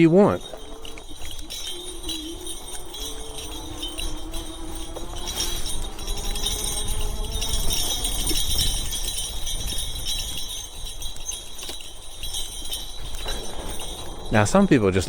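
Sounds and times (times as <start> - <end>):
bike metallic jingling rattle: 0.0 - 15.0
low wind rumble: 0.2 - 15.0.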